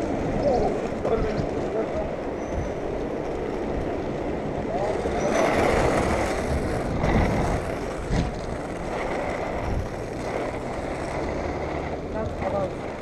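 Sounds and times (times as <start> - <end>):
inline skate wheels rolling on asphalt: 0.0 - 13.0
small bumps: 0.0 - 13.0.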